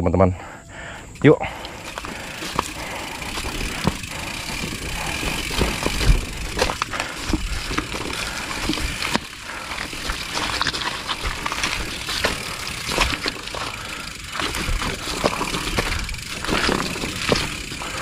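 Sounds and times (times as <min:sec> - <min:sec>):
bike knocking and rattling: 0:01.0 - 0:18.0
tyres crunching on gravel: 0:01.1 - 0:18.0.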